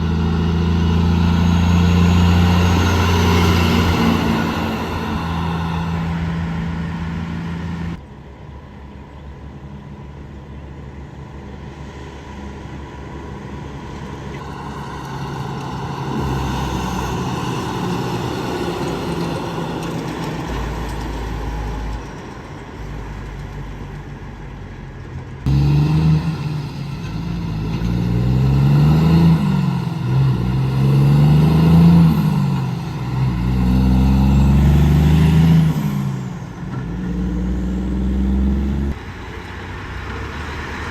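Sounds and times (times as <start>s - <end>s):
truck engine revving: 0.0s - 8.0s, 14.4s - 23.7s, 25.5s - 40.9s
heavy trucks passing: 0.0s - 9.0s, 10.1s - 40.9s.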